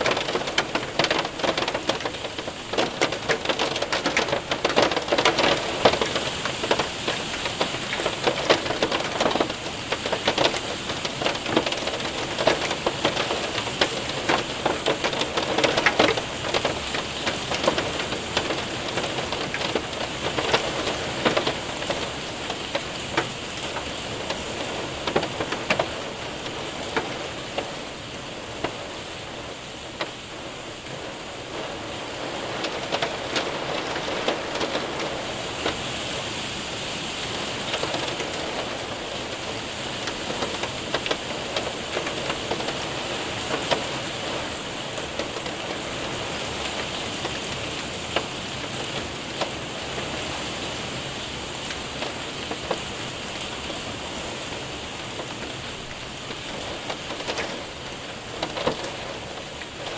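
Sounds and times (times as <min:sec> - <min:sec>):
hailstones ticking on window and roof: 0:00.0 - 0:59.9
heavy rain: 0:00.0 - 0:59.9.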